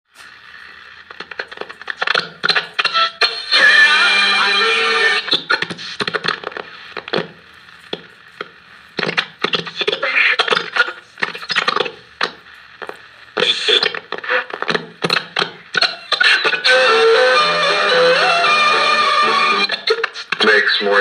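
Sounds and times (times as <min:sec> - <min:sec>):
radio station snatches: 0:00.1 - 0:16.8, 0:18.2 - 0:21.0
radio static and crackles: 0:00.1 - 0:21.0.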